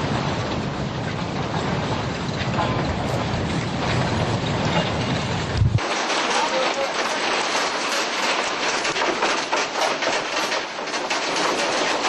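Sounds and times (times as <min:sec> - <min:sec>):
furniture rattling and clattering: 0:00.2 - 0:12.0.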